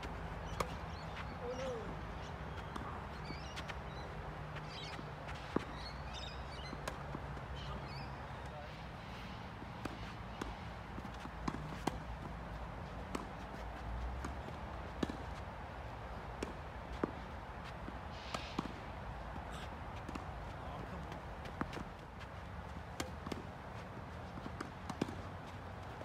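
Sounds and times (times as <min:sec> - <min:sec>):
tennis ball bounces: 0:00.0 - 0:08.5, 0:09.6 - 0:15.5, 0:16.1 - 0:26.0
steady outdoor hiss: 0:00.0 - 0:26.0.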